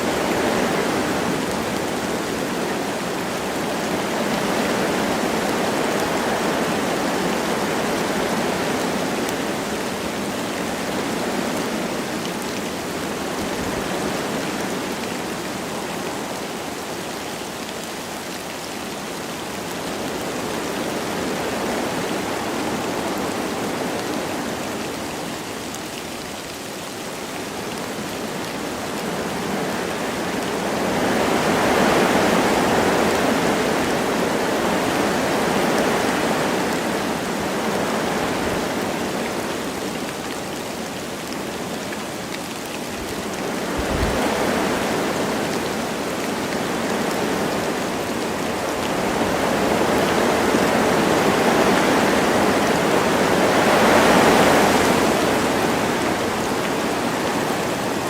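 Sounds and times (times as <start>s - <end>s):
light rain falling: 0.0s - 58.0s
wind through trees: 0.0s - 58.0s.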